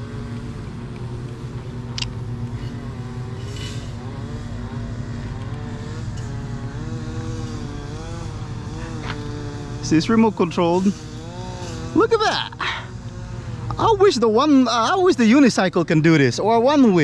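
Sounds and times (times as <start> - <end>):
electric motors whining: 0.0 - 15.1
steady low hum: 0.0 - 17.0.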